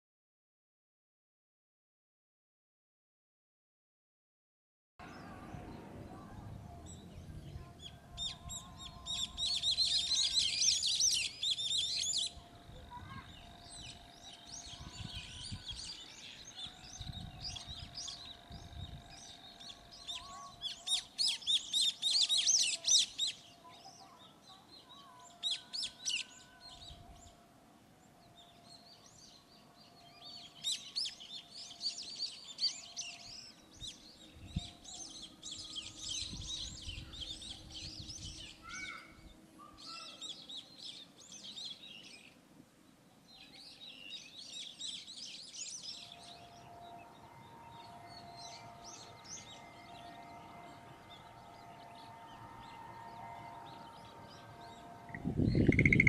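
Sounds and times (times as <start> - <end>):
birds chirping and chattering: 5.0 - 27.3, 28.3 - 42.4, 43.4 - 56.0.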